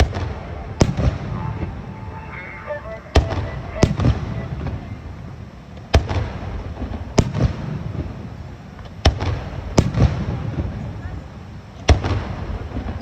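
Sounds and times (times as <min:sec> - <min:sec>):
fireworks bangs: 0:00.0 - 0:11.2, 0:11.8 - 0:13.0.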